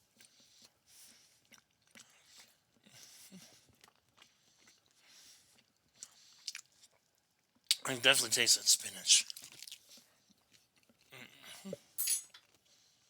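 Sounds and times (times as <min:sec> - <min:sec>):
chewing bread crust: 0:00.0 - 0:07.8, 0:09.2 - 0:13.0.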